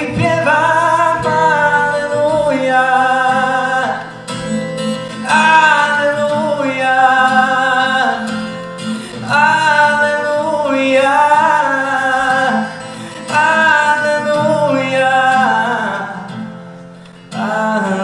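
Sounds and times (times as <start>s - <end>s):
man singing: 0.0s - 16.6s, 17.3s - 18.0s
acoustic guitar: 0.0s - 18.0s.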